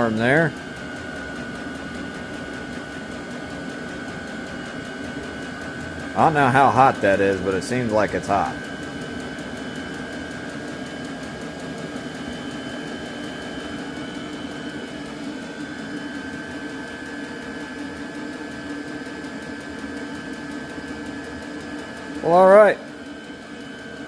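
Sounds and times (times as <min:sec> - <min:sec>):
air heater whirring: 0:00.0 - 0:24.0.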